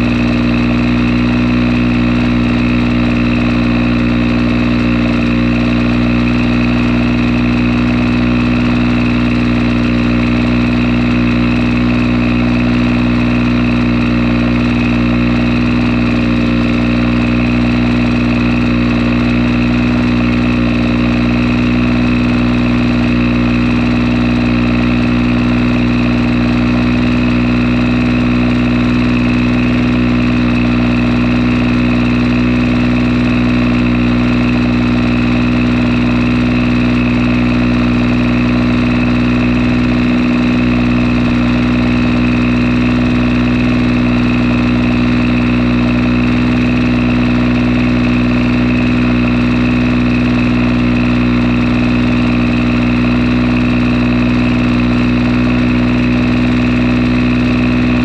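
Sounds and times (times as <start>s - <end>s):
two-stroke generator engine running: 0.0s - 58.0s.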